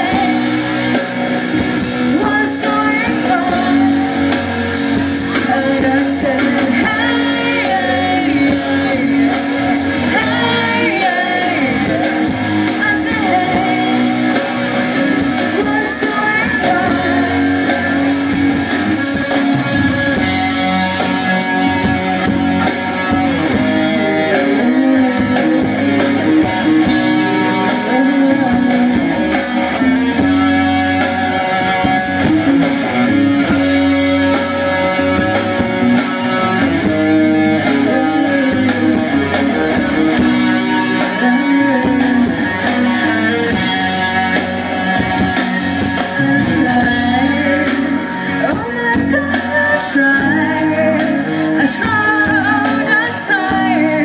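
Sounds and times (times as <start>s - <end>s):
drums keeping a steady beat: 0.0s - 54.0s
guitar: 0.0s - 54.0s
live band playing: 0.0s - 54.0s.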